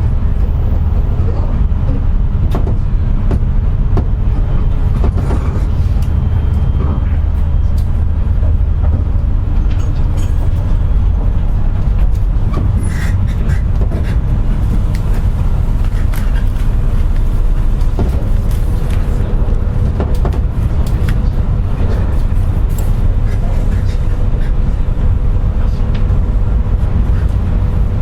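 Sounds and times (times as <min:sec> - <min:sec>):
electric train running rumble: 0:00.0 - 0:28.0
wheels clicking on track: 0:00.0 - 0:28.0.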